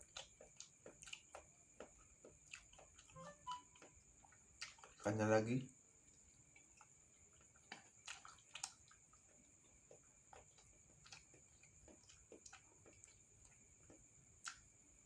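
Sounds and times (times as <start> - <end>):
chewing sounds: 0.0 - 5.2, 6.0 - 15.0
faint high-pitched whine: 0.0 - 15.0.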